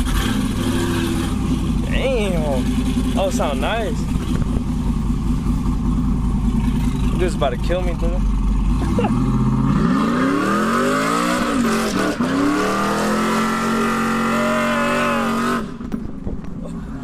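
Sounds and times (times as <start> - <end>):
truck engine accelerating hard: 0.0 - 15.9.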